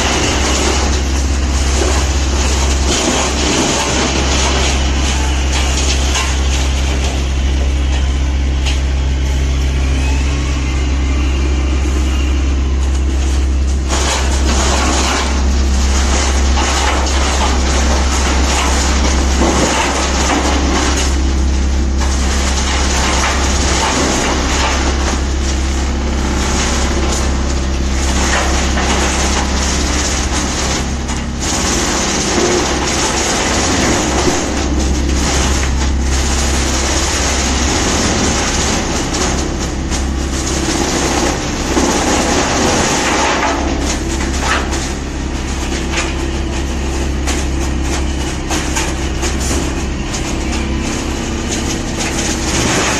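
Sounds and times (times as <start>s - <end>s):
wood chipper running: 0.0s - 52.9s.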